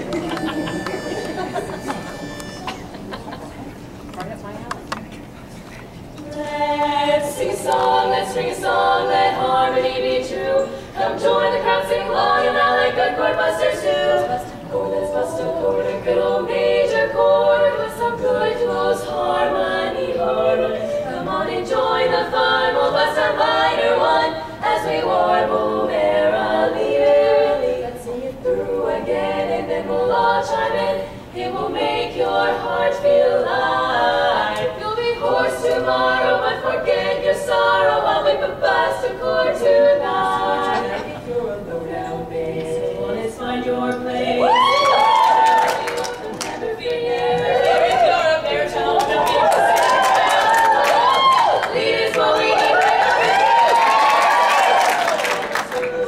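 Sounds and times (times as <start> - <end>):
women singing in close harmony: 6.2 - 56.0.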